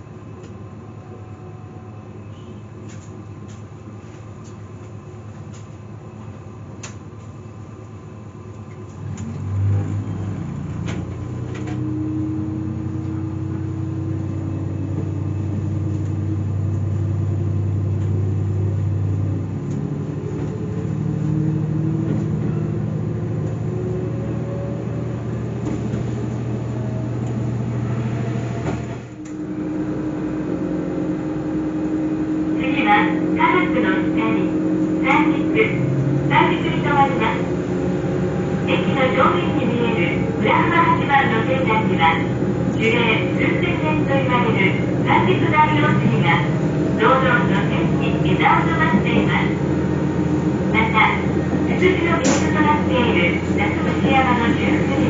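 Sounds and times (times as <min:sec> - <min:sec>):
diesel railcar engine drone: 0:00.0 - 0:55.0.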